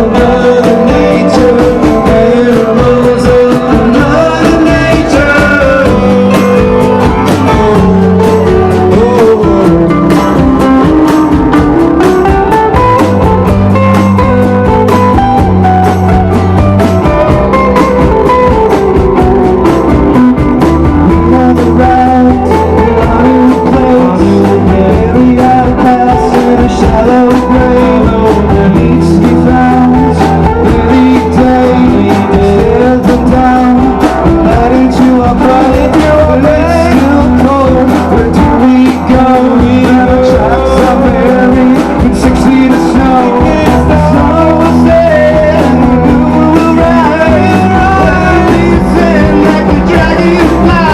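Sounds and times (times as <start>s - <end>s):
live rock band playing: 0.0s - 50.9s
person singing: 0.0s - 50.9s.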